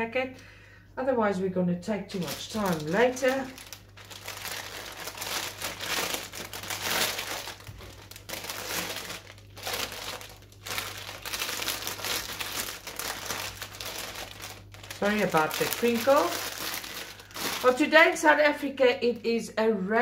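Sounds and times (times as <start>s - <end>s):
plastic packet crinkling: 2.1s - 18.6s.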